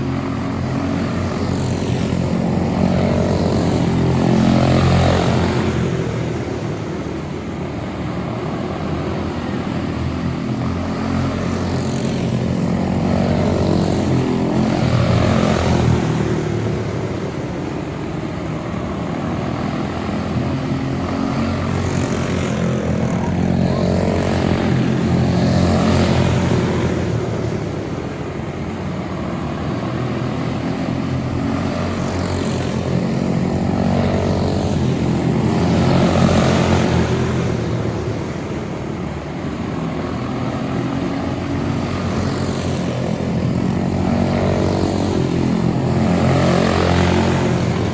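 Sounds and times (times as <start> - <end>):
small race car engines buzzing: 0.0 - 47.9.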